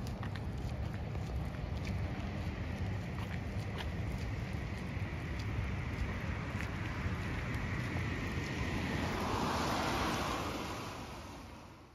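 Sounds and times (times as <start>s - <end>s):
wind rumbling on microphone: 0.0s - 11.9s
tyres hissing on wet road: 0.4s - 11.9s.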